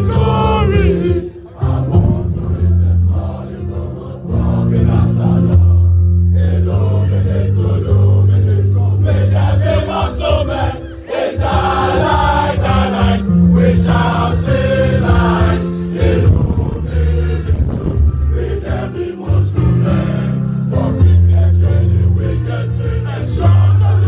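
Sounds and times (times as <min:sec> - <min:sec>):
instrumental accompaniment: 0:00.0 - 0:24.0
voices singing an anthem: 0:00.0 - 0:24.0.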